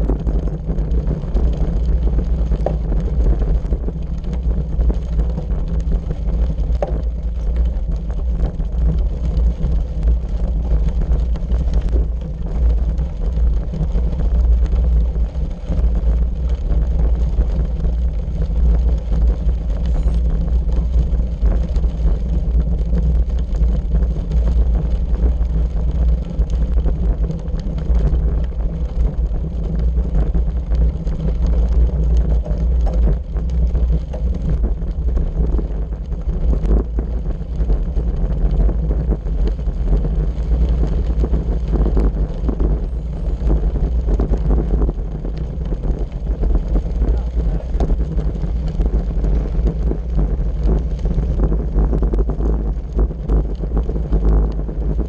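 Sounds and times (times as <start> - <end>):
bicycle tyres crunching over gravel: 0.0 - 55.0.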